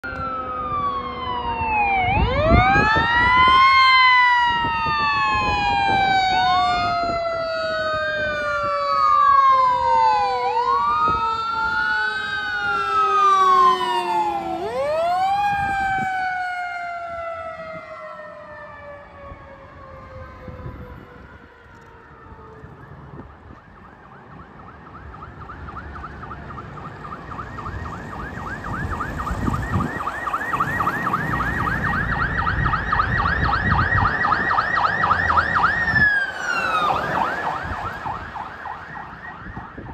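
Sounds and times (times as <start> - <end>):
fire engine siren wailing: 0.0 - 39.9
second siren tone sliding down: 0.0 - 39.9.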